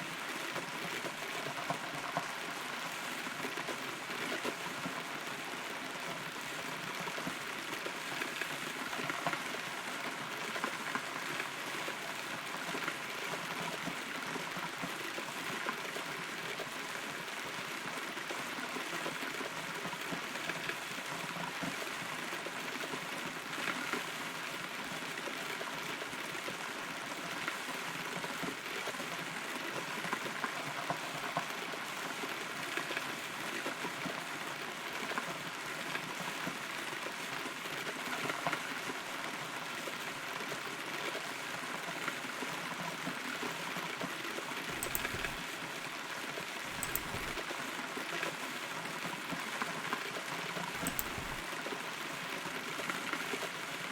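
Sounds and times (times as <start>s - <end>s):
rain patter on hollow tree: 0.1s - 44.8s, 47.4s - 50.8s.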